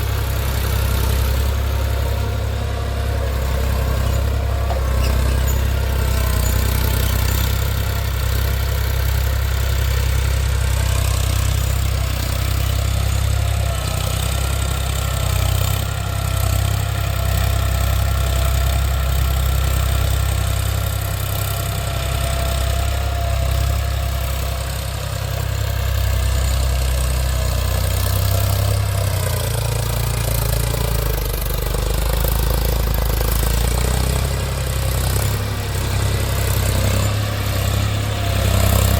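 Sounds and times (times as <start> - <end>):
tractor diesel engine rumbling: 0.0 - 38.9.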